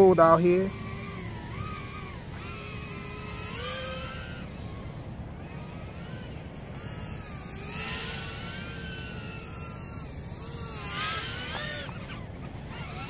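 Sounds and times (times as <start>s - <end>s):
quadcopter whining in flight: 0.0s - 13.0s.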